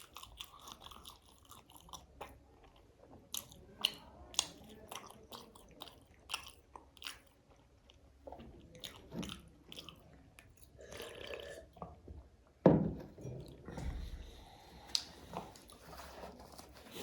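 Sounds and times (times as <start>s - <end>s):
food being chewed: 0.0s - 12.0s, 14.8s - 17.0s.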